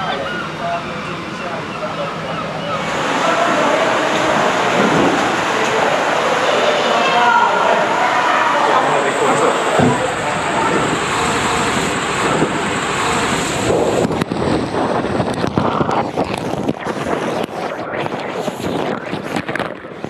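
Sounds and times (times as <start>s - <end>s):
water rushing through slide tube: 2.7s - 20.0s.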